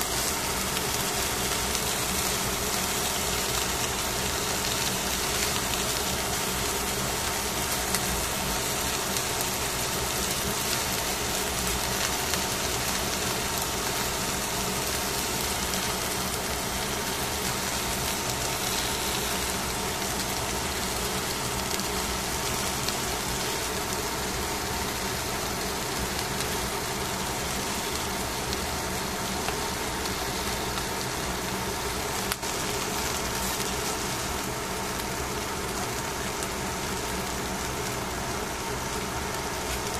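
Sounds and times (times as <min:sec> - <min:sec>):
fish sizzling on foil: 0:00.0 - 0:39.9.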